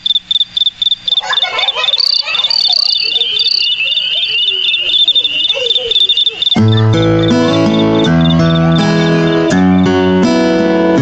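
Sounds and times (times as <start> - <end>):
cricket chirping: 0.0 - 10.3
insects chirring: 0.0 - 10.4.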